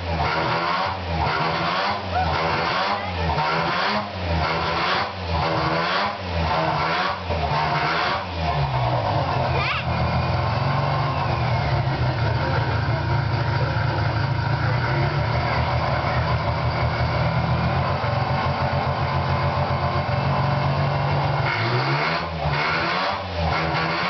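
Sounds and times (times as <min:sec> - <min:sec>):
rotary engine idling and revving: 0:00.0 - 0:24.0.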